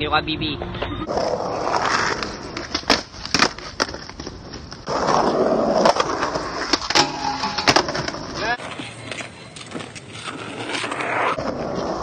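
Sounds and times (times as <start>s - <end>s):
skateboard wheels rolling on concrete: 0.6s - 12.0s
skateboard clacking on ground: 1.1s - 5.2s, 5.8s - 12.0s.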